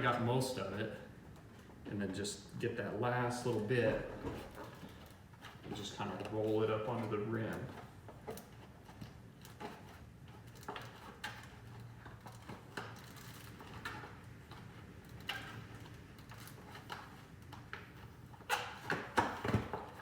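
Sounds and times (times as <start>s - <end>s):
handling noise: 2.6s - 20.0s.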